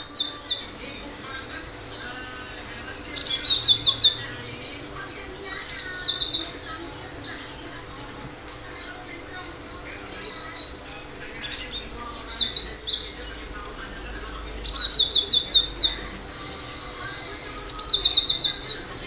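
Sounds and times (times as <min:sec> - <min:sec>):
bird singing high notes: 0:00.0 - 0:00.8, 0:01.8 - 0:08.1, 0:10.0 - 0:19.0.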